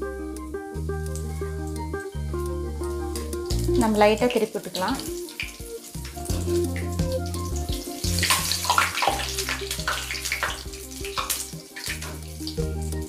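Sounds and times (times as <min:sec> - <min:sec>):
background music: 0:00.0 - 0:13.0
food deep-frying in oil: 0:00.8 - 0:13.0.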